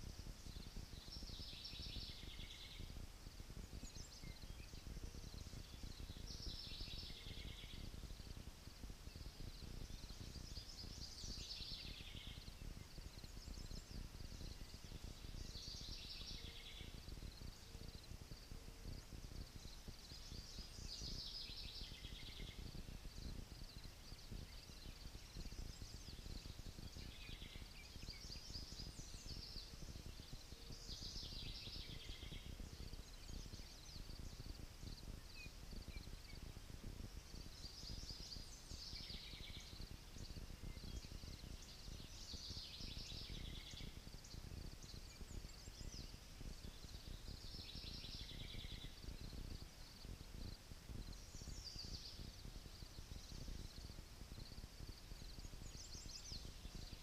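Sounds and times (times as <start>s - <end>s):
low rumble of wind: 0.0s - 57.0s
songbird singing: 0.0s - 57.0s.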